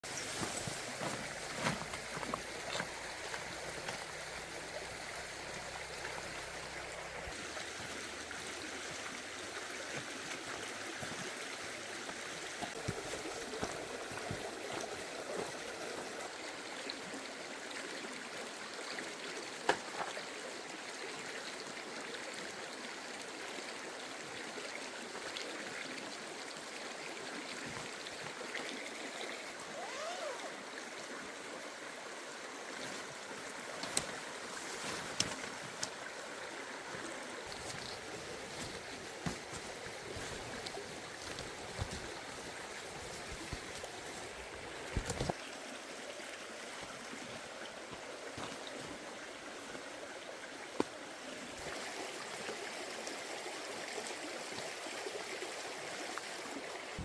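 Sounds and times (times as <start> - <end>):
stream gurgling over rocks: 0.0 - 57.0.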